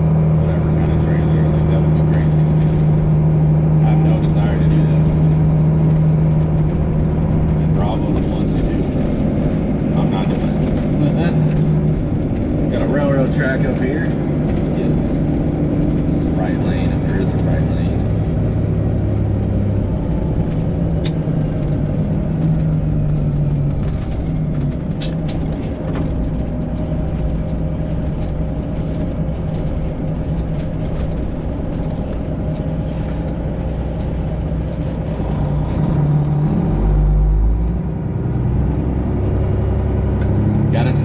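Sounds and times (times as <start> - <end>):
truck diesel engine drone: 0.0 - 41.0.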